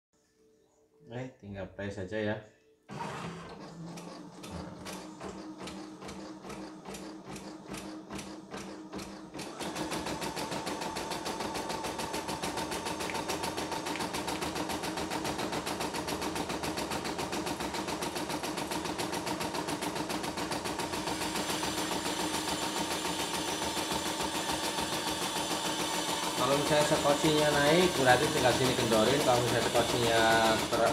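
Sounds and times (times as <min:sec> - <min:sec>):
embroidery machine stitching: 0:02.9 - 0:30.9.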